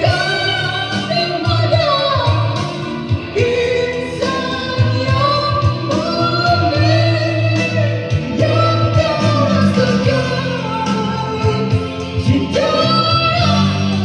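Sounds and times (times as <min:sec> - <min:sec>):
song with sung vocals: 0:00.0 - 0:14.0
steady bass line: 0:00.0 - 0:14.0.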